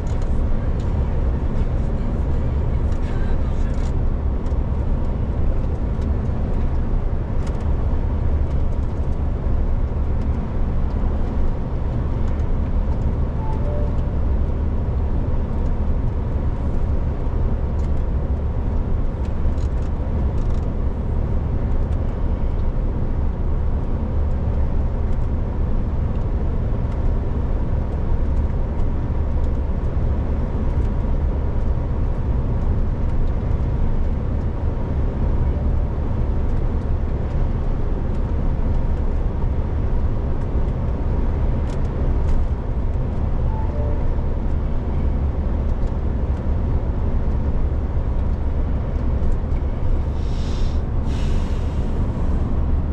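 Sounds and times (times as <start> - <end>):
truck engine and road rumble: 0.0 - 52.9.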